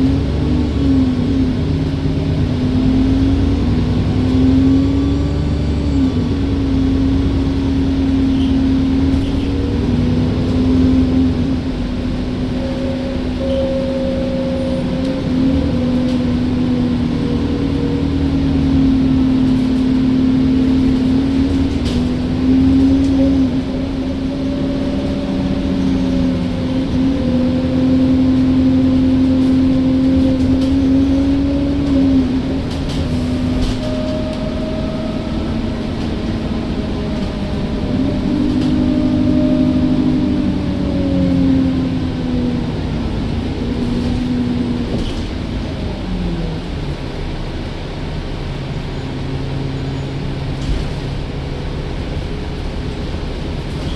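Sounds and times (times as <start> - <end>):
bus droning hum: 0.0 - 53.9.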